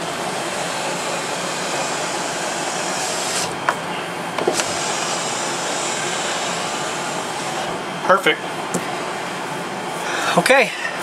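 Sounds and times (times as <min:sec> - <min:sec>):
fan rushing noise: 0:00.0 - 0:11.0.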